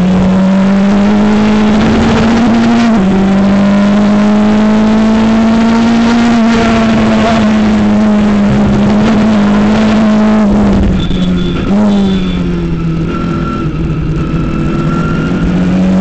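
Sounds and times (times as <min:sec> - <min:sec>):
race car engine at full throttle: 0:00.0 - 0:16.0
wind and road noise: 0:00.0 - 0:16.0.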